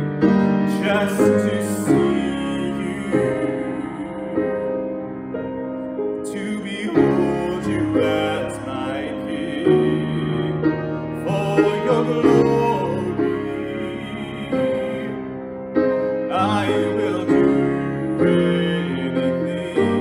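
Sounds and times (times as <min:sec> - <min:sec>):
man singing worship song: 0:00.0 - 0:04.8, 0:06.2 - 0:20.0
grand piano: 0:00.0 - 0:20.0.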